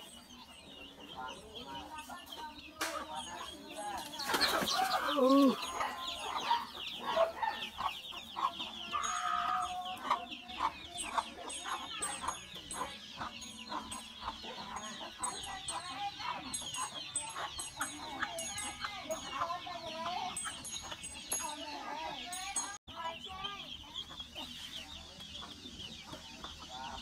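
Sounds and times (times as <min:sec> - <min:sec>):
chicks peeping: 0:00.0 - 0:27.0
hens clucking: 0:00.0 - 0:27.0.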